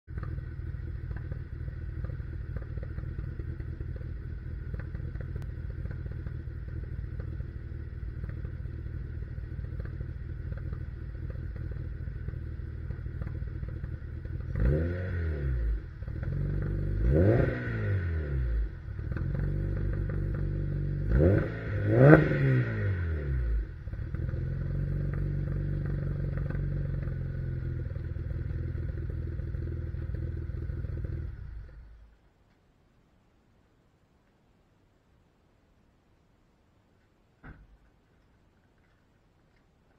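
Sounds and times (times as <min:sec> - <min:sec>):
car engine idling and revving: 0:00.1 - 0:32.2.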